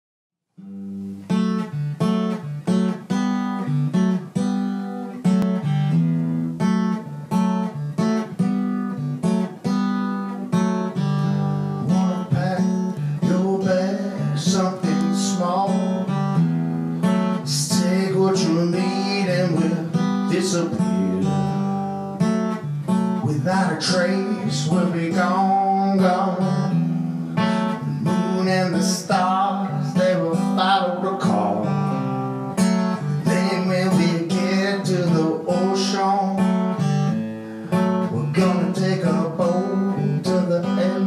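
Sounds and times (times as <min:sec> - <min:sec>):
acoustic guitar strumming: 0:00.5 - 0:41.0.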